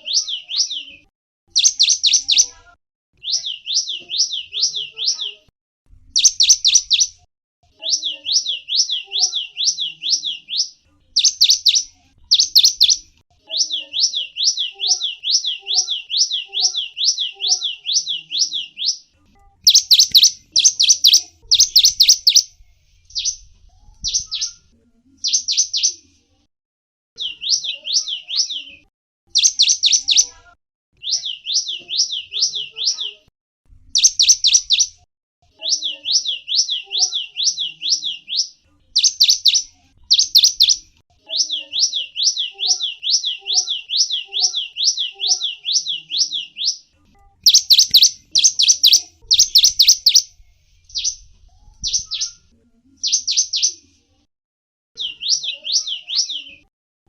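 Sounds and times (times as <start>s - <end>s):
small songbird singing: 0.0s - 2.6s, 3.2s - 26.1s, 27.2s - 30.4s, 31.0s - 33.2s, 33.9s - 53.8s, 55.0s - 56.7s.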